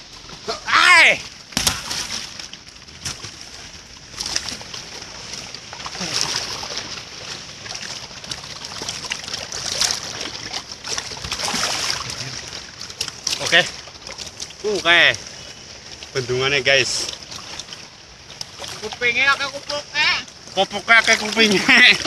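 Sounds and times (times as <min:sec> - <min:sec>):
river water splashing: 0:00.0 - 0:22.0.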